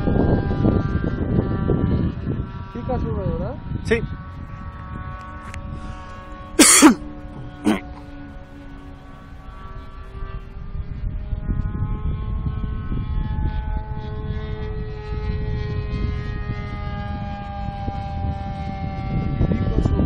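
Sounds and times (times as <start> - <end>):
model airplane engine whining: 0.0 - 20.0
wind rumbling on microphone: 0.0 - 20.0.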